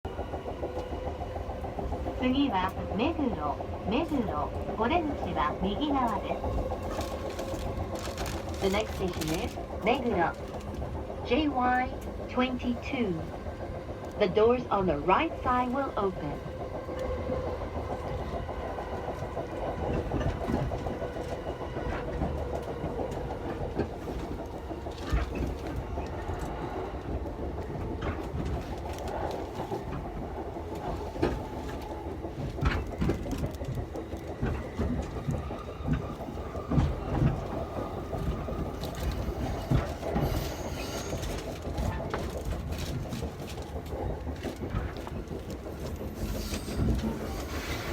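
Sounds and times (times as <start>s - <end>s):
train car rumble: 0.1s - 47.9s
wheels clacking over rails: 0.1s - 47.9s.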